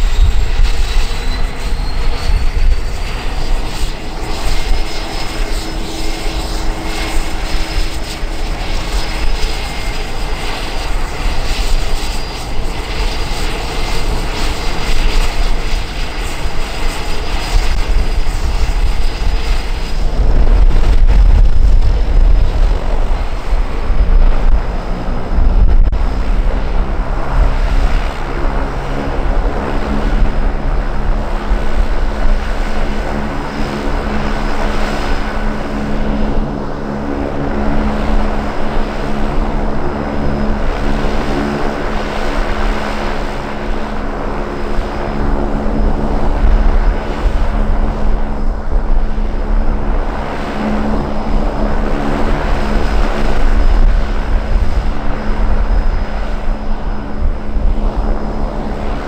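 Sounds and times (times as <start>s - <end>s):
turboprop engine idling: 0.0s - 59.0s.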